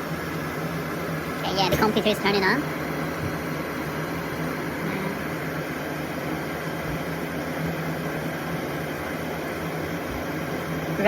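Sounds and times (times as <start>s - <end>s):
cooling fans whirring: 0.0s - 11.0s
low electrical hum: 0.0s - 11.0s.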